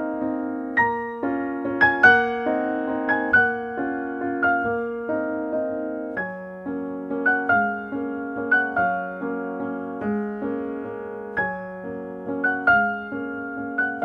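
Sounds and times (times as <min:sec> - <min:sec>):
solo piano: 0:00.0 - 0:14.0.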